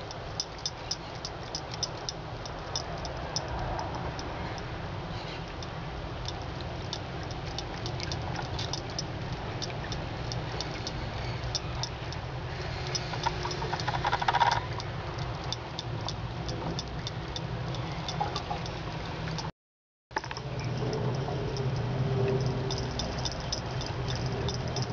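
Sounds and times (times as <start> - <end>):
cat lapping water: 0.0 - 19.4, 20.6 - 24.9
faucet trickling: 0.0 - 19.5, 20.4 - 24.9.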